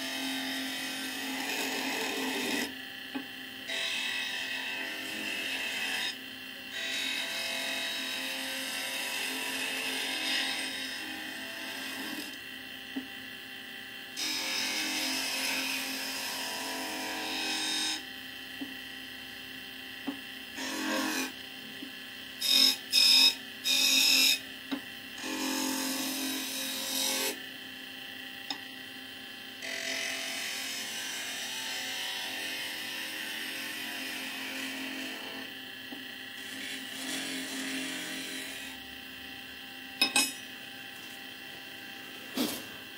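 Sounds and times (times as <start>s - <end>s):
lathe humming: 0.0s - 42.9s.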